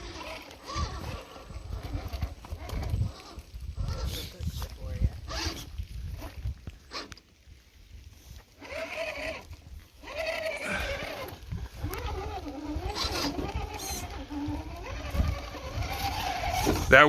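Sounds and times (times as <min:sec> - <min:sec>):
electric motor whining: 0:00.0 - 0:07.3, 0:08.2 - 0:17.0.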